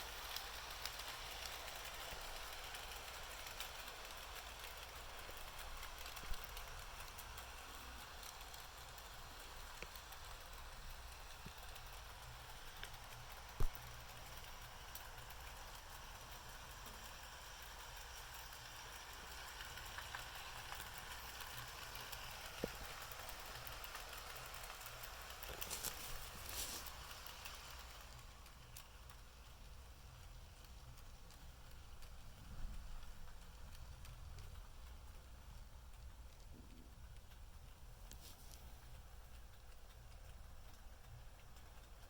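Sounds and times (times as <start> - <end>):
light clicks on track: 0.0 - 42.0
model train whir: 0.0 - 42.0.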